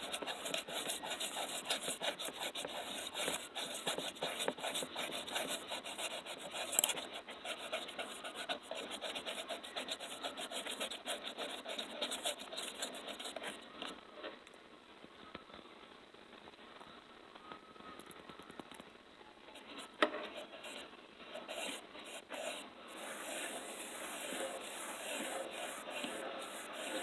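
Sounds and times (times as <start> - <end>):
close-miked scratching and rubbing: 0.0 - 14.4, 19.6 - 27.0.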